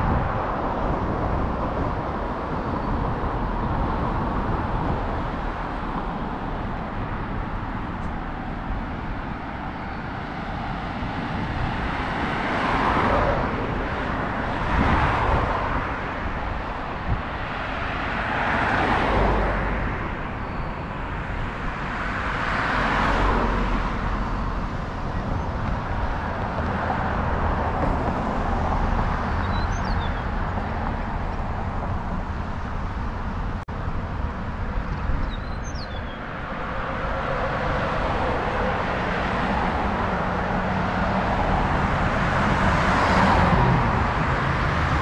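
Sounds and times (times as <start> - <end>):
cars passing: 0.0 - 45.0
heavy vehicle rumble: 0.0 - 45.0.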